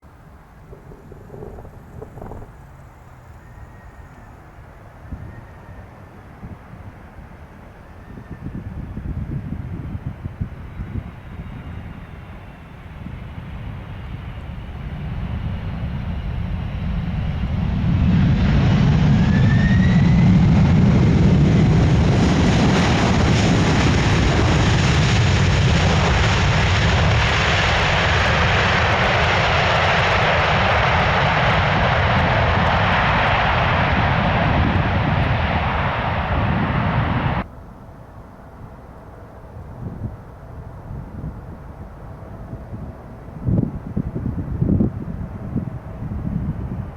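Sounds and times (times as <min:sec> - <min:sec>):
jet airliner engines passing: 0:00.0 - 0:46.9.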